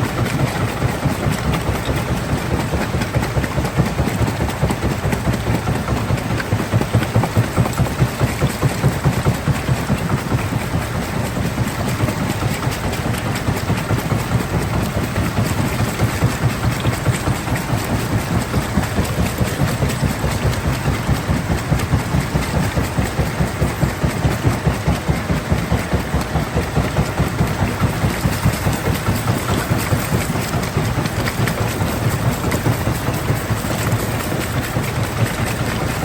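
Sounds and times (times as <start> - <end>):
pulsing machinery rumble: 0.0 - 36.0.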